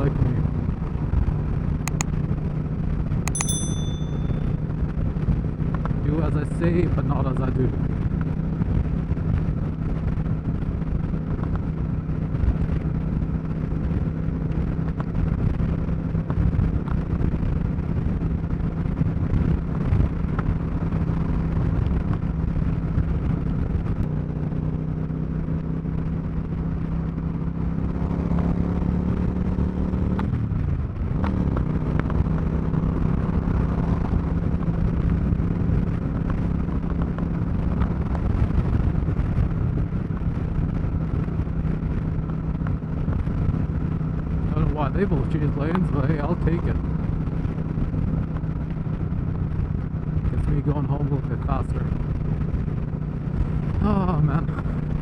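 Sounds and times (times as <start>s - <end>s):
motorcycle engine at highway speed: 0.0s - 55.0s.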